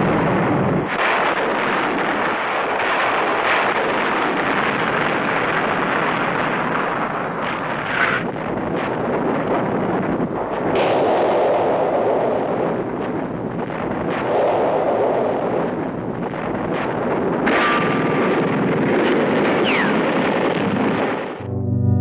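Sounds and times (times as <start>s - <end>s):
artillery fire and explosions: 0.0s - 21.5s.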